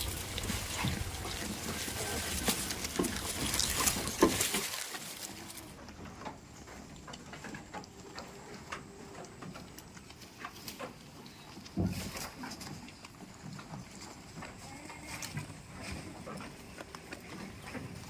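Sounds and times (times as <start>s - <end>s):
goats rustling and tapping: 0.0s - 18.0s.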